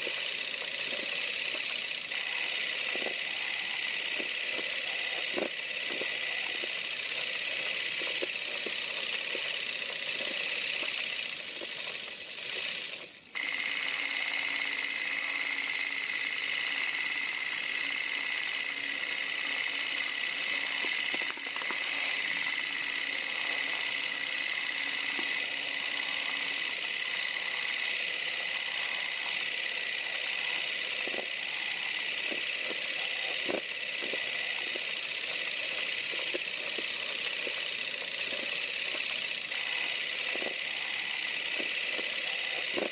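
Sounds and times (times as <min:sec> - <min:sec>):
film noise hiss and whir: 0:00.0 - 0:42.9.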